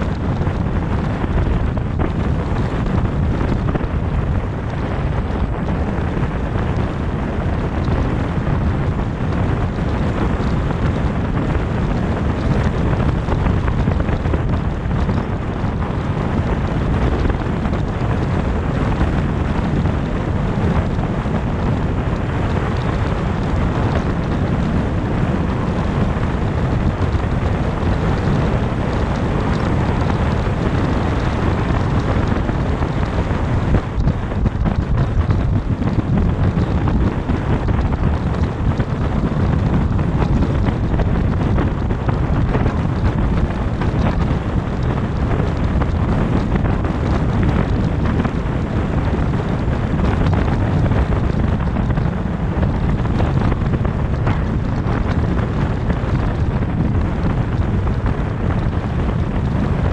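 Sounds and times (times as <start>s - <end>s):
rushing air: 0.0s - 59.9s
tyres rumbling on pavement: 0.0s - 59.9s.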